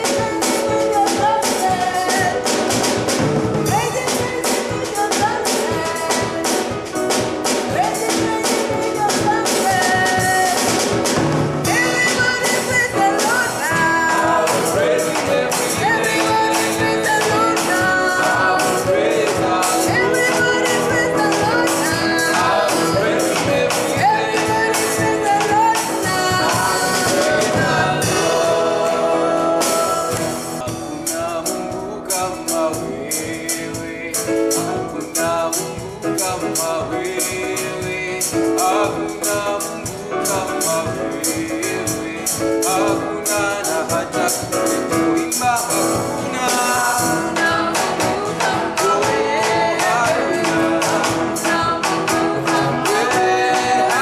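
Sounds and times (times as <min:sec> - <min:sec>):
sharp drum strikes: 0:00.0 - 0:33.8, 0:34.6 - 0:54.0
band playing gospel music: 0:00.0 - 0:54.0
people singing: 0:00.0 - 0:54.0.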